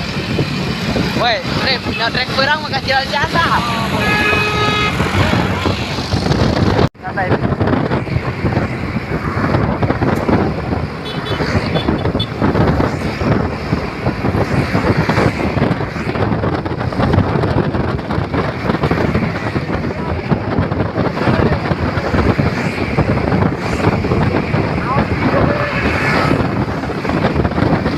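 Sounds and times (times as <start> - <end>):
road traffic noise: 0.0 - 27.9
wind buffeting microphone: 0.0 - 27.9.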